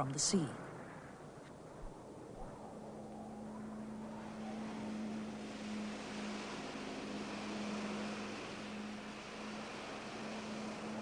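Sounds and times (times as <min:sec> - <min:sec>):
constant low hum: 0:00.0 - 0:11.0
steady rushing noise: 0:00.0 - 0:11.0.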